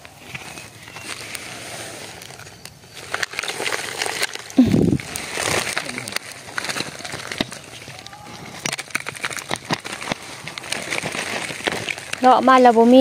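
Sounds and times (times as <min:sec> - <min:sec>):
rustling and crackling: 0:00.0 - 0:13.0.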